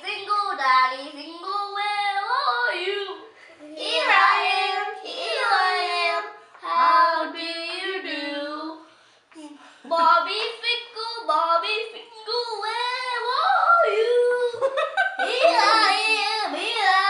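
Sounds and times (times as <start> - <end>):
child singing: 0.0 - 8.8, 9.4 - 14.6, 15.2 - 17.0.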